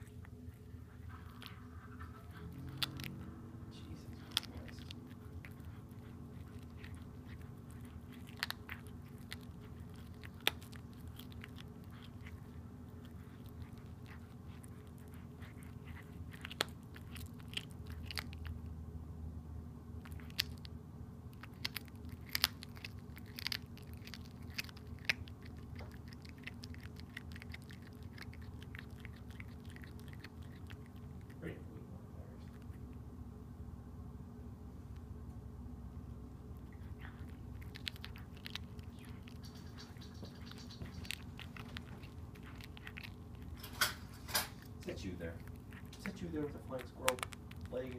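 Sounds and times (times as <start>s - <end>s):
cat chewing and crunching: 0.0s - 47.9s
low background hum: 0.0s - 47.9s.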